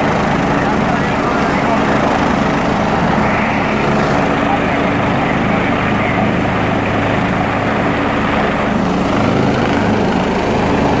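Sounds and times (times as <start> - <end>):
helicopter rotor beat: 0.0 - 11.0
turbine engine hum: 0.0 - 11.0.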